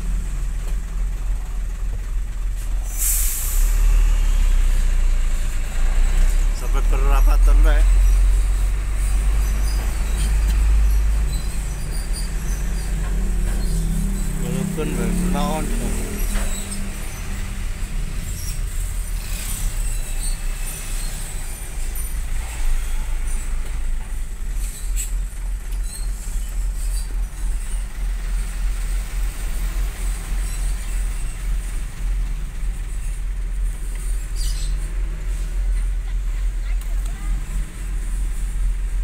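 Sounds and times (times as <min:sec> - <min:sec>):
engine rumbling from inside cab: 0:00.0 - 0:39.0.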